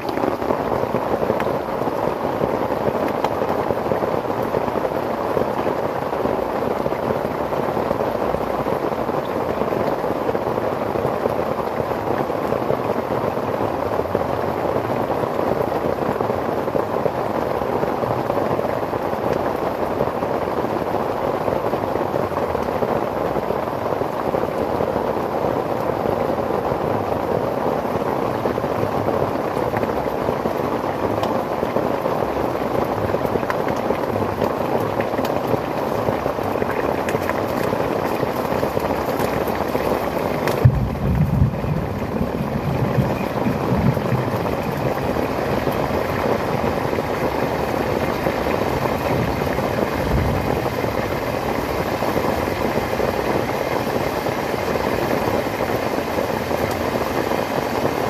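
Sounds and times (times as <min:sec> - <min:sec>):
chicken deep-frying in oil: 0:00.0 - 0:26.7, 0:27.7 - 0:58.0
rain on a tarp: 0:00.0 - 0:58.0.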